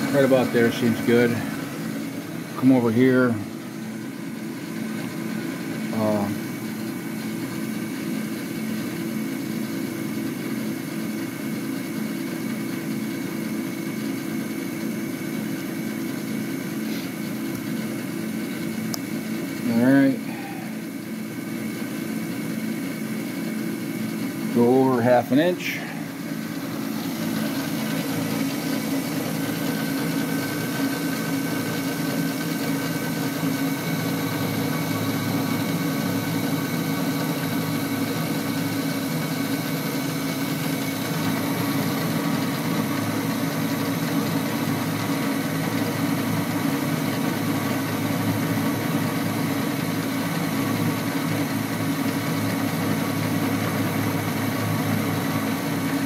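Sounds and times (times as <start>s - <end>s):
lathe motor humming: 0.0s - 56.0s
lathe tool cutting metal bar: 0.0s - 56.0s.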